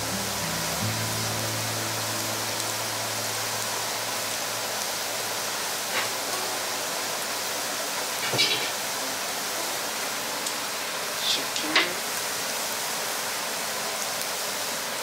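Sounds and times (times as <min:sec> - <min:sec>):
garlic sizzling in oil: 0:00.0 - 0:15.0.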